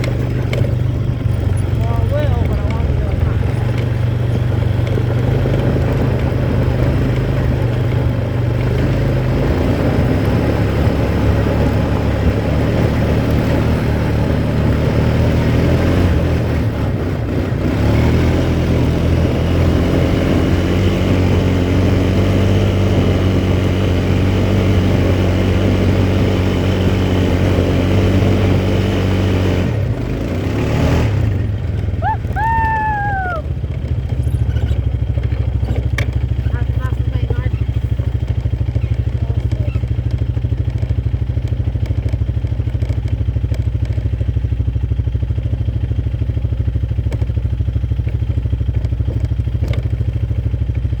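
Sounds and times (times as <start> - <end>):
quad bike engine running: 0.0 - 51.0.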